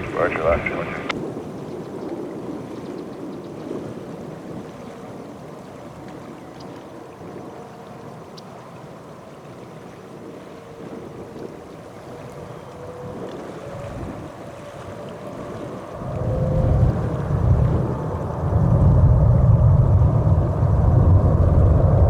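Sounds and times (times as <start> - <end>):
distant jet engines rumbling: 0.0 - 22.0
wind on microphone: 0.0 - 22.0.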